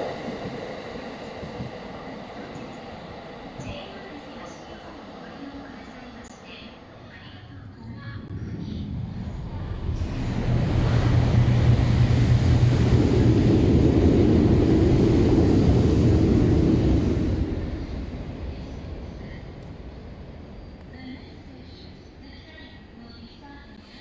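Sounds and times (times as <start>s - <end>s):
high-speed train rushing past: 0.0s - 24.0s.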